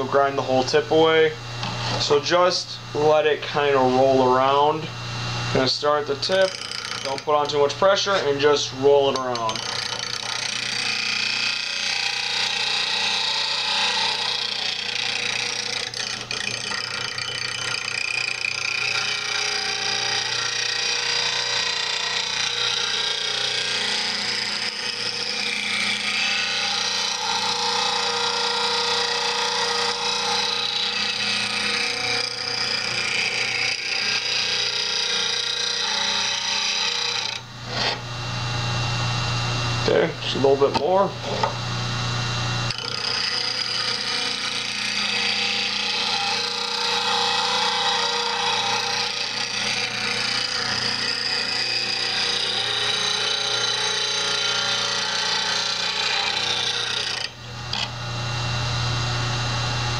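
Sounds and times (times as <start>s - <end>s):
bench grinder grinding steel: 0.0s - 59.9s.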